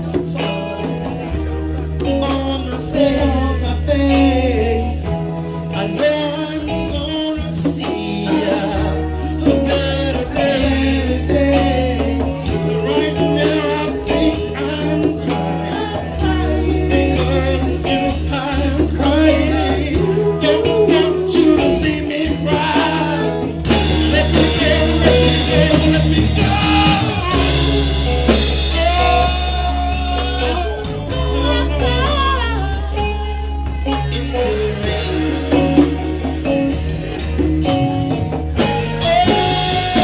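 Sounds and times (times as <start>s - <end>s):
congas: 0.0s - 40.0s
drum kit: 0.0s - 40.0s
electric bass guitar: 0.0s - 40.0s.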